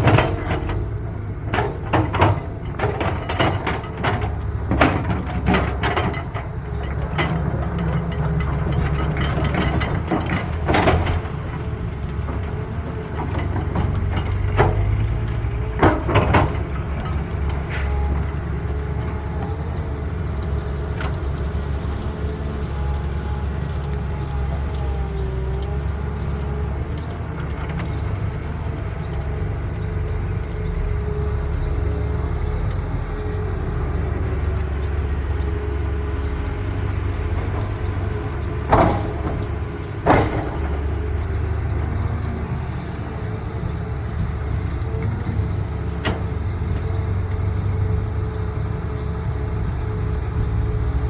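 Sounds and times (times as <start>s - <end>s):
diesel machinery droning: 0.0s - 51.0s.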